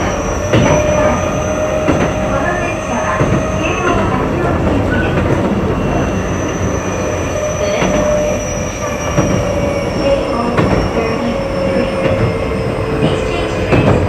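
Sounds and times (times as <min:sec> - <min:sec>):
electric train running: 0:00.0 - 0:14.0.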